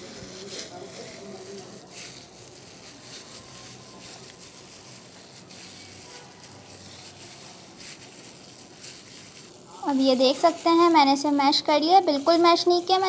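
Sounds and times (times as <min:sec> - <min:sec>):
steady hiss: 0:00.0 - 0:11.3
plastic glove crinkling: 0:00.0 - 0:13.0.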